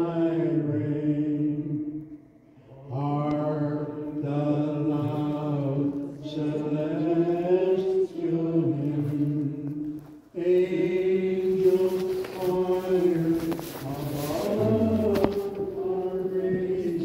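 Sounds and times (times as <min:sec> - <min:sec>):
voices singing a hymn: 0:00.0 - 0:17.0.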